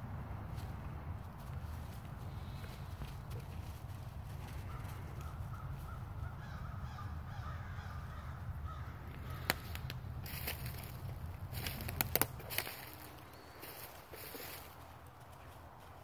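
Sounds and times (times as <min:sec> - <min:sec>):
crackles in dry leaves: 0:00.5 - 0:16.0
distant bird calls: 0:02.1 - 0:15.7.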